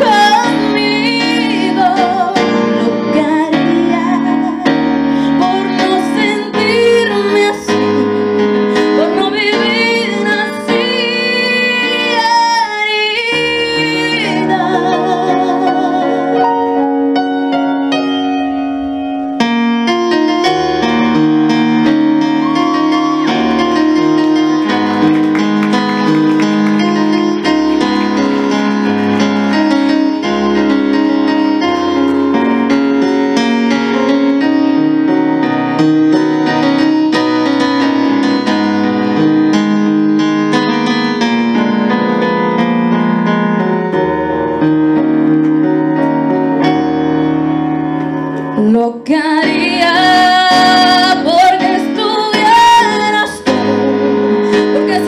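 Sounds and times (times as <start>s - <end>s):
piano playing ballad: 0.0s - 55.0s.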